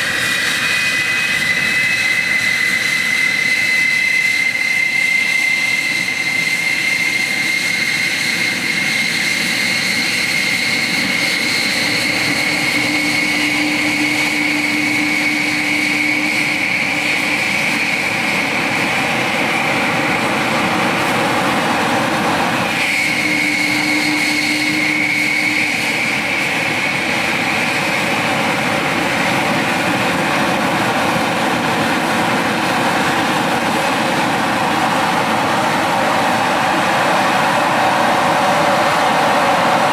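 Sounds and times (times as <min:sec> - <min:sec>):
high jet whine: 0:00.0 - 0:39.9
jet engines running: 0:00.0 - 0:39.9.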